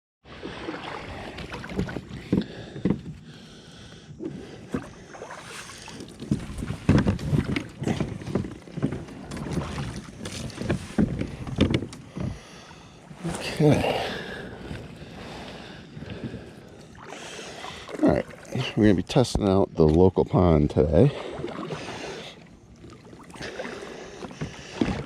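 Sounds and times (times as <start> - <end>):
knocks and bumps on a boat: 0.7 - 5.3, 5.9 - 22.0, 22.8 - 25.0.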